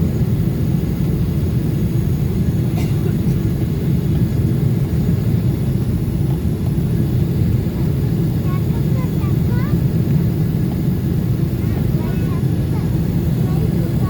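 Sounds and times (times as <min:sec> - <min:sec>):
airplane cabin roar: 0:00.0 - 0:14.0.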